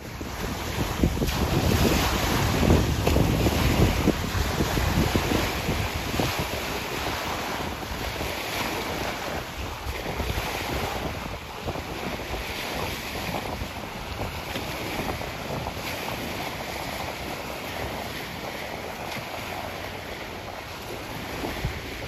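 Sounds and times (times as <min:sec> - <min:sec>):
sea waves washing in: 0:00.0 - 0:22.0
wind buffeting microphone: 0:00.0 - 0:22.0.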